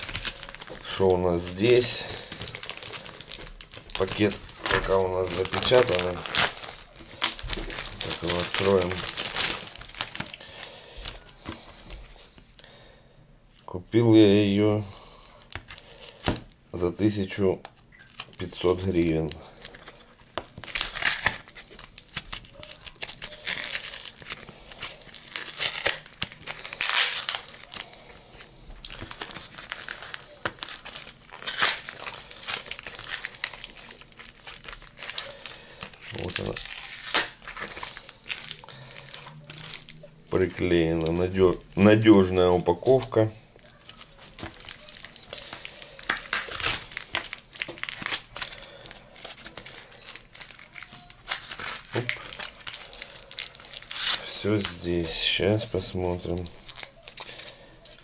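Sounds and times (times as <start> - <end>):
paper envelope torn open: 0.0 - 11.2, 18.1 - 41.9, 43.6 - 58.0
paper crinkling and rustling: 0.0 - 12.5, 17.1 - 58.0.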